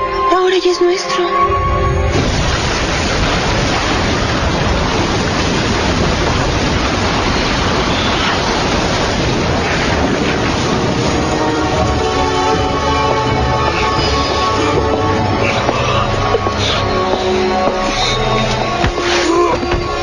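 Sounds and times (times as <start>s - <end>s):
loud rushing roar: 1.5s - 20.0s.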